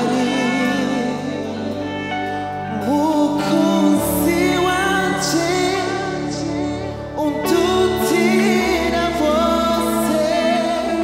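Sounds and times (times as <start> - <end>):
bass guitar: 0.0 - 11.0
keyboard: 0.0 - 11.0
voices singing slow melody: 0.0 - 11.0.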